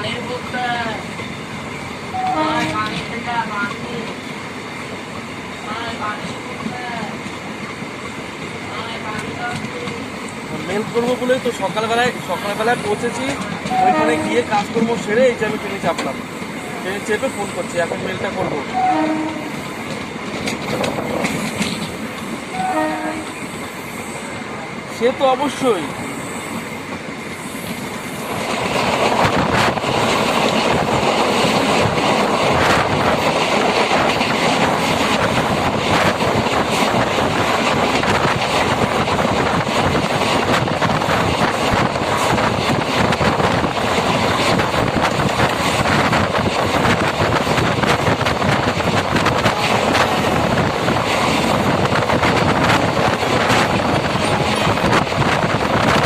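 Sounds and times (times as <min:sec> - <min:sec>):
train rumbling and rattling: 0:00.0 - 0:56.0.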